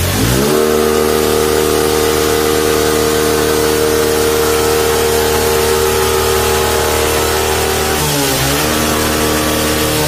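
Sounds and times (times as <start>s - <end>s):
engine revving: 0.0s - 10.0s
heavy rain hissing: 0.0s - 10.0s.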